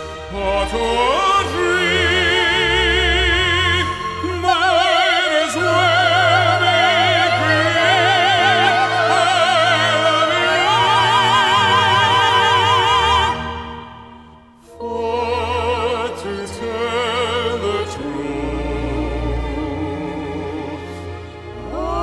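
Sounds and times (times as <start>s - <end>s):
operatic singing with vibrato: 0.0s - 22.0s
orchestral accompaniment: 0.0s - 22.0s.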